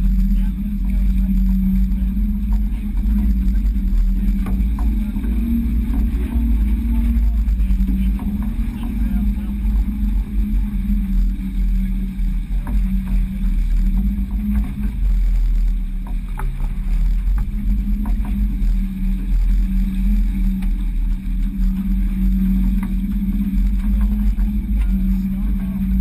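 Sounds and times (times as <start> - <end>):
constant hum: 0.0 - 26.0
steady low rumble: 0.0 - 26.0.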